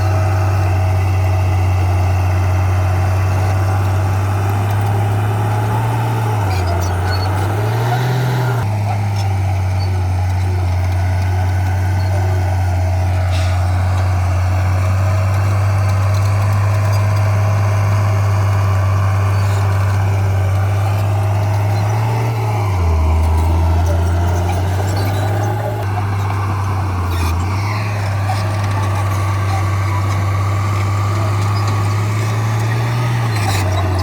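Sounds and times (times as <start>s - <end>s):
heavy diesel engine droning: 0.0s - 34.0s.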